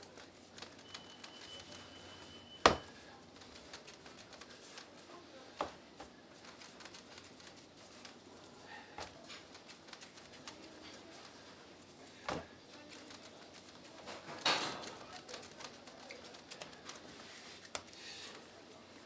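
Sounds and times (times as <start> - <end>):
dough pressing and rubbing: 0.0 - 19.0.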